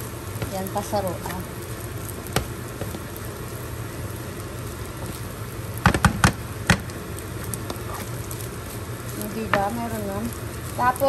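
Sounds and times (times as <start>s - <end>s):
rice sizzling in a pan: 0.0s - 11.0s.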